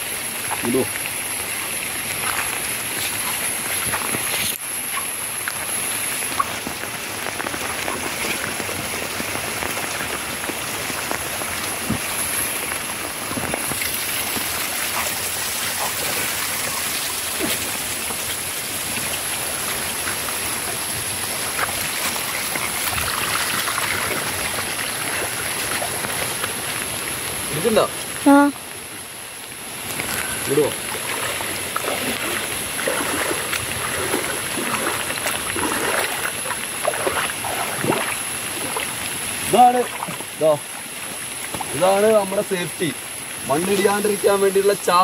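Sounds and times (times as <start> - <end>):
running water: 0.0 - 45.0
steady rain: 0.0 - 45.0.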